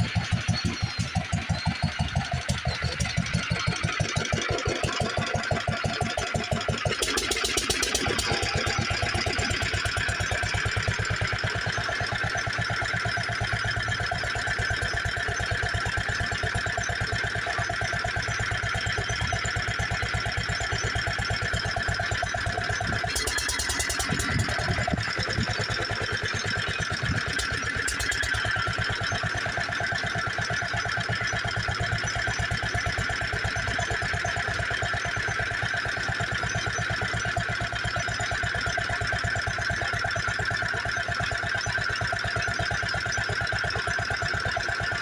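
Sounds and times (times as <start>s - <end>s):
single-cylinder engine beating: 0.0s - 45.0s.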